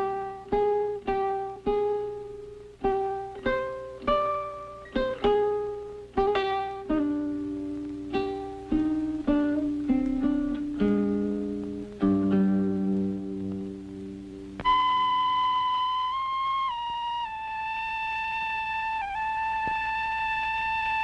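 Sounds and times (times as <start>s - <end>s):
plucked string melody: 0.0s - 21.0s.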